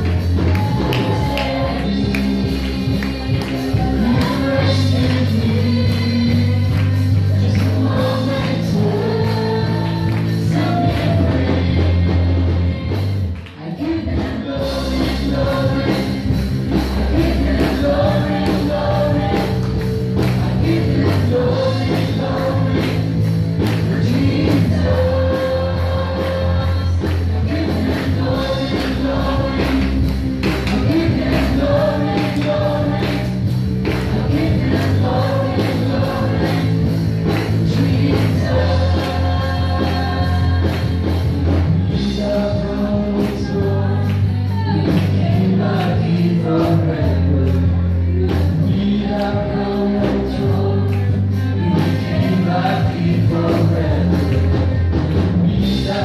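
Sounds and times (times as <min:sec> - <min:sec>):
band accompaniment with beat: 0:00.0 - 0:56.0
choir singing gospel song: 0:00.0 - 0:56.0.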